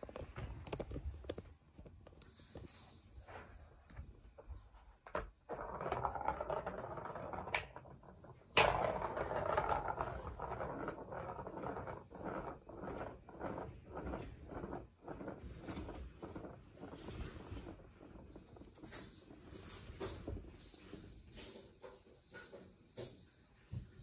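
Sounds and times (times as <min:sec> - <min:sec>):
ball rolling around plastic track: 0:00.0 - 0:23.4.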